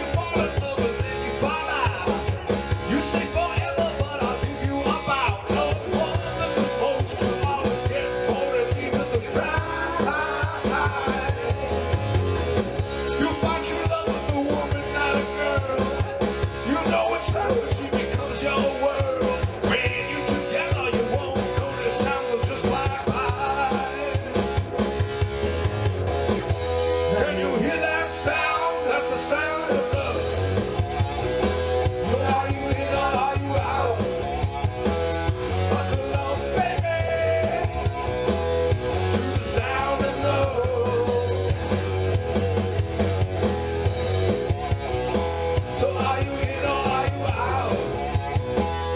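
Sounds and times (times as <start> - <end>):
bass guitar: 0.0 - 48.9
guitar: 0.0 - 48.9
steady drum beat: 0.0 - 48.9.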